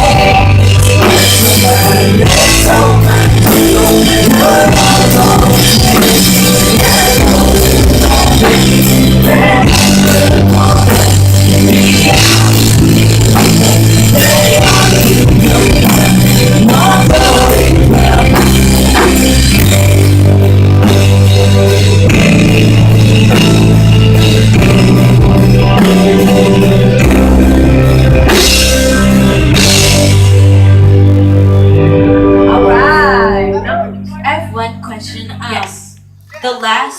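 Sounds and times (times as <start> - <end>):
band playing a worship song: 0.0 - 35.8
drum kit beat: 0.0 - 36.0.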